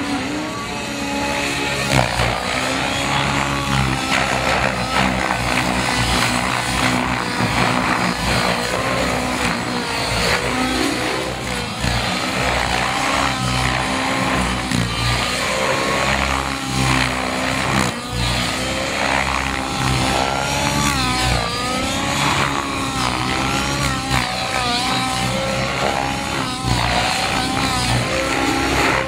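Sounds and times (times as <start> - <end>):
model helicopter motor and rotor whine: 0.0 - 29.0.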